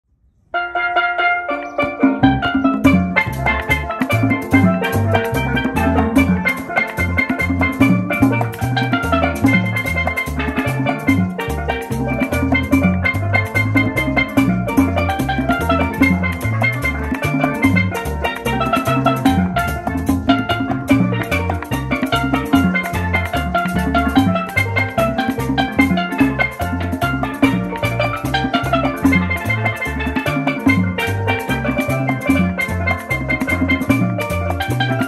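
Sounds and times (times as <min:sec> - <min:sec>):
tropical instrumental dance music: 0:00.6 - 0:35.0.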